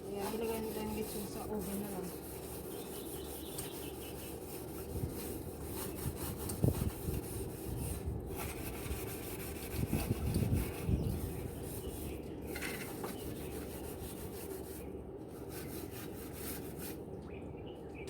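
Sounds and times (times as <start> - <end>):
grill parts scrubbed by hand: 0.0 - 17.0.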